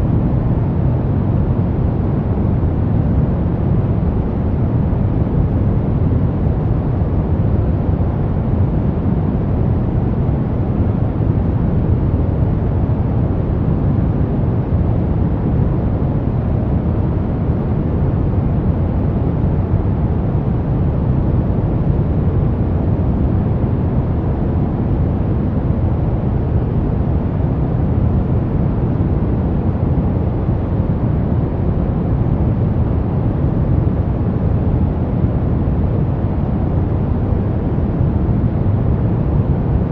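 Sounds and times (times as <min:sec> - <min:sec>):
deep rushing brown noise: 0:00.0 - 0:39.9.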